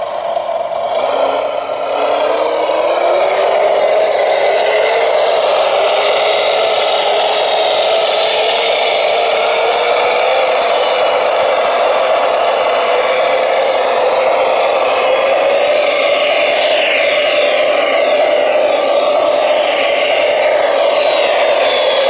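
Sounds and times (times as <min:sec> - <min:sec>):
model vehicle motor whine: 0:00.0 - 0:22.0.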